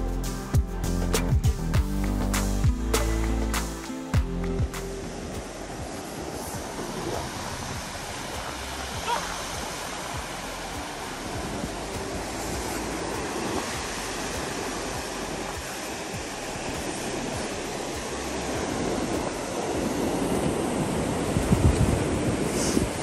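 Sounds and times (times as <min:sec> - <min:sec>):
sea waves washing onto beach: 0:02.3 - 0:23.0.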